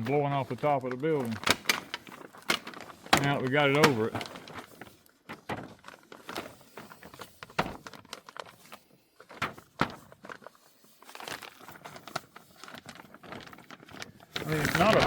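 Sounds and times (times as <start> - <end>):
plastic sheeting crinkling: 0.0 - 15.0.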